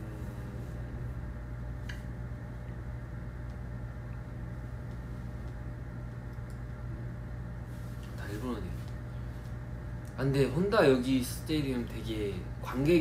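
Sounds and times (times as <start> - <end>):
room background hiss: 0.0 - 13.0
steady low hum: 0.0 - 13.0.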